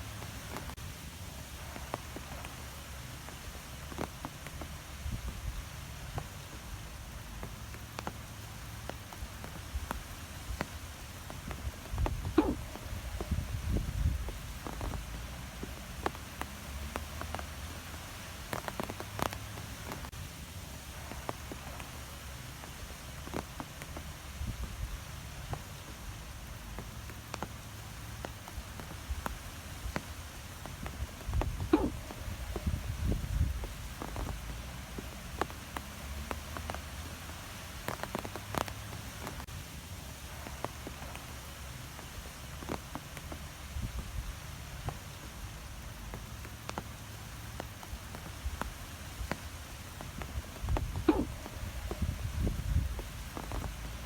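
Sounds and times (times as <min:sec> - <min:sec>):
wind blowing through trees: 0:00.0 - 0:54.0
light ticks and taps: 0:01.5 - 0:20.2, 0:20.9 - 0:54.0.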